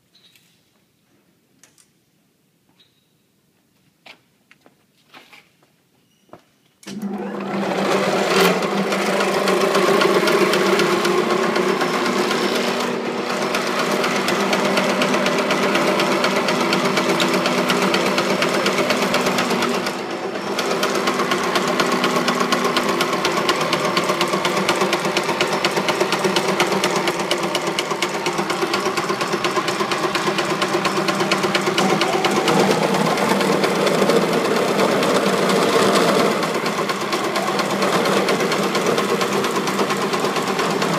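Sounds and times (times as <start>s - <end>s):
machine hum: 6.9s - 40.9s
winding machine clatter: 7.0s - 40.9s.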